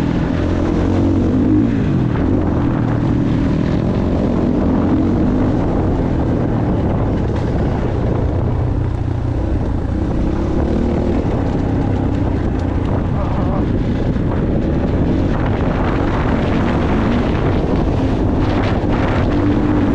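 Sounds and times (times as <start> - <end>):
motocross bike engine revving: 0.0 - 19.9.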